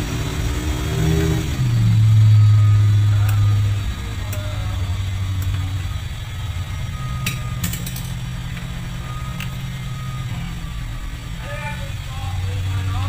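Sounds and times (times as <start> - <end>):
engine idling drone: 0.0 - 13.0.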